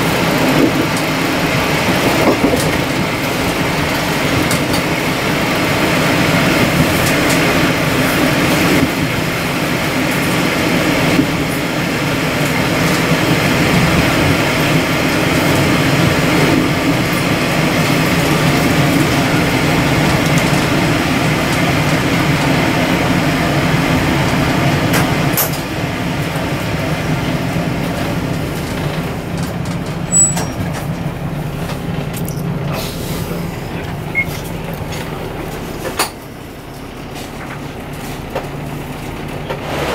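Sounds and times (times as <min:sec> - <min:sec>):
diesel engine drone: 0:00.0 - 0:39.9
wheel and rail noise: 0:00.0 - 0:39.9.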